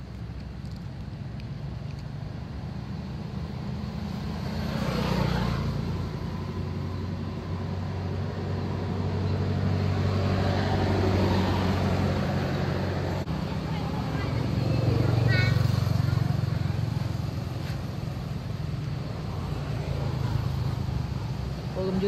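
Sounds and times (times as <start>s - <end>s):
vehicle engines passing: 0.0s - 22.0s.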